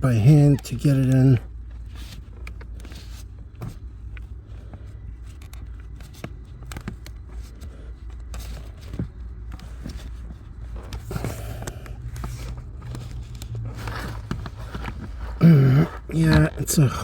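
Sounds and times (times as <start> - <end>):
steady low hum: 0.0 - 17.0
scraping and rustling: 1.5 - 17.0.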